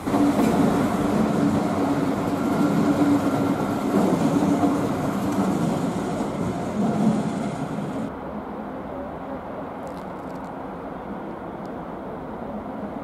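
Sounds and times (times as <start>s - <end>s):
train power car hum: 0.0s - 13.0s.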